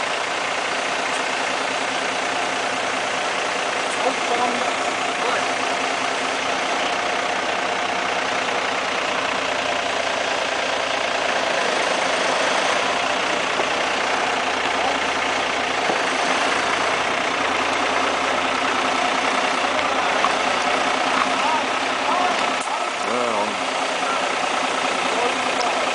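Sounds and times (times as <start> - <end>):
diesel truck engine running: 0.0 - 25.9.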